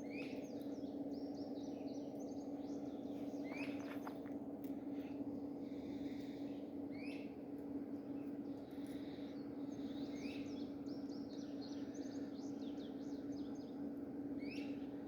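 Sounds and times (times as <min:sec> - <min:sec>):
birds singing: 0:00.0 - 0:04.3, 0:05.8 - 0:07.5, 0:08.1 - 0:15.0
steady low hum: 0:00.0 - 0:15.0.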